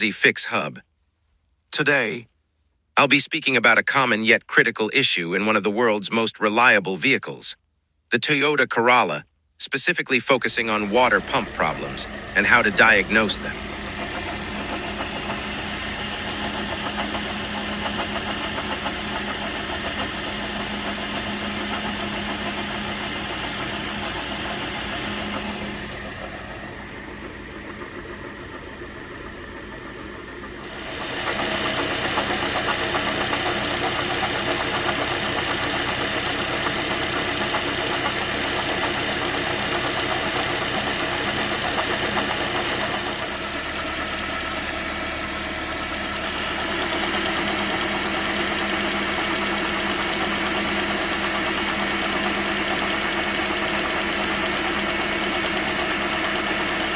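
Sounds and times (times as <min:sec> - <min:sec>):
accessory drive noise: 0:10.2 - 0:56.9
car engine running: 0:10.4 - 0:56.9.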